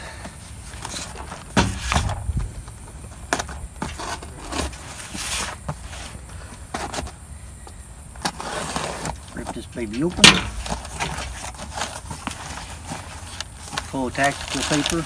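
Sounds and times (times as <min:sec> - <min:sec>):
cardboard scraping and rustling: 0:00.5 - 0:07.2, 0:08.2 - 0:15.0.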